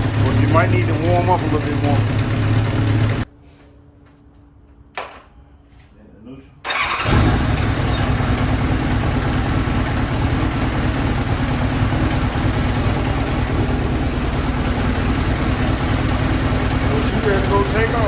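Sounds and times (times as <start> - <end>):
motorcycle engine idling: 0.0 - 3.3, 6.7 - 18.0.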